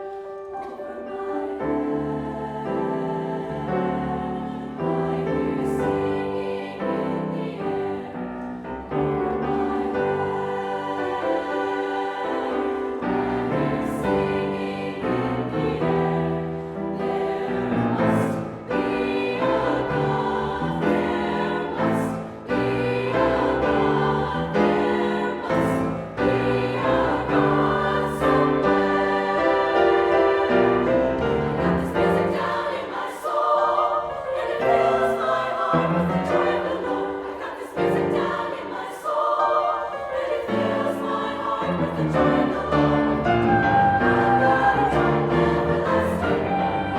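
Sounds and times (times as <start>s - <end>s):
choir singing: 0.0s - 46.9s.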